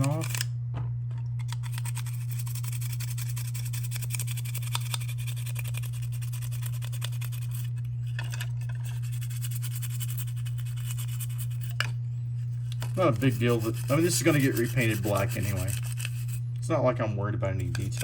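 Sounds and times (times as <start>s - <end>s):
toothbrush scrubbing metal: 0.0s - 0.4s, 1.5s - 16.6s, 17.6s - 18.0s
steady low hum: 0.0s - 18.0s.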